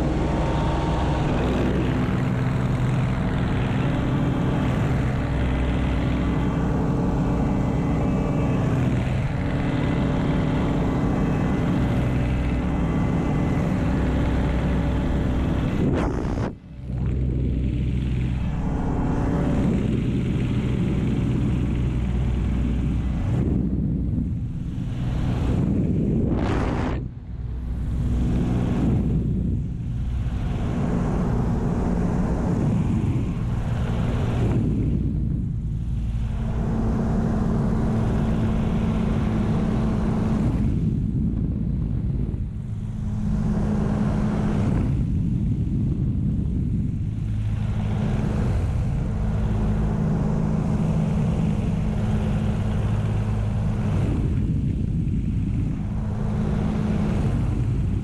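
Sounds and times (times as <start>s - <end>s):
air rushing over canopy: 0.0s - 58.0s
aircraft engine droning: 0.0s - 58.0s.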